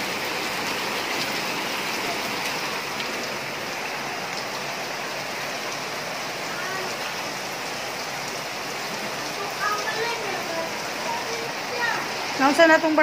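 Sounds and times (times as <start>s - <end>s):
heavy rain on floodwater: 0.0s - 13.0s.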